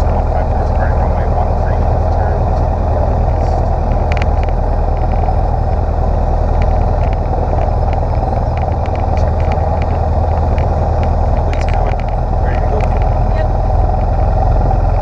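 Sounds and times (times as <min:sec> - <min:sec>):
airplane engine and propeller: 0:00.0 - 0:15.0.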